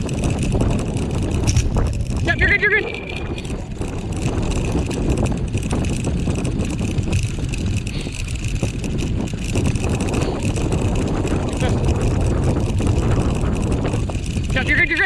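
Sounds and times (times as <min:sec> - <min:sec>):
rig rolling over dirt trail: 0:00.0 - 0:15.0
small rattling clicks: 0:00.0 - 0:15.0
wind buffeting microphone: 0:00.0 - 0:15.0.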